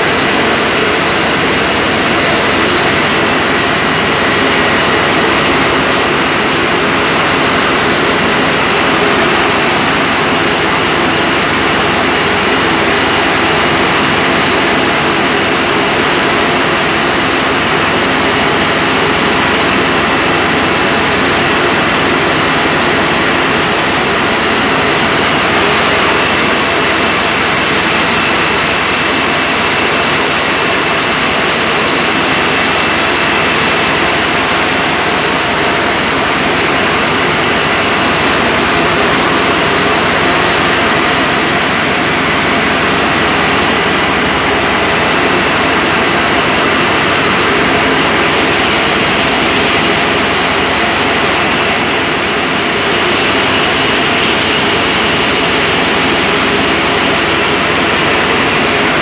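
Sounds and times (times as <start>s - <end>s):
faint high whine: 0.0s - 59.0s
loud machine noise: 0.0s - 59.0s.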